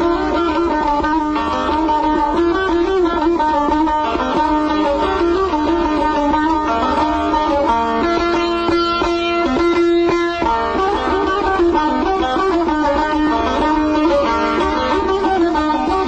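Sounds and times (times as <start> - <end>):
plucked long-necked lute melody: 0.0 - 16.0.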